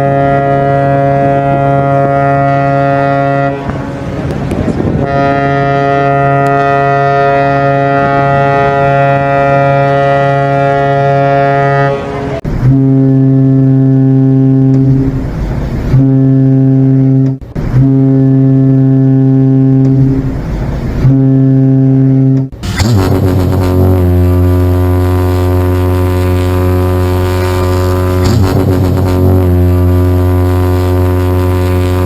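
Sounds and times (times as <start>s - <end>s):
deep ship's horn blasts: 0.0s - 32.0s.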